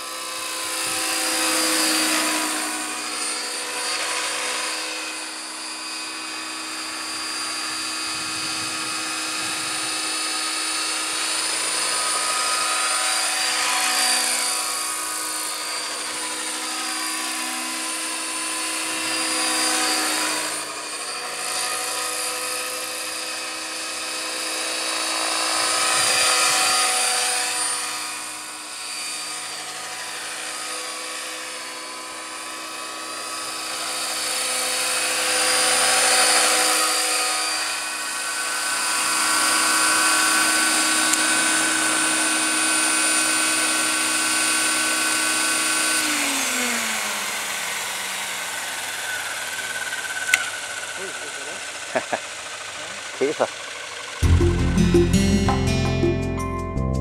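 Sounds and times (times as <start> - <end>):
model helicopter whine: 0.0 - 54.2.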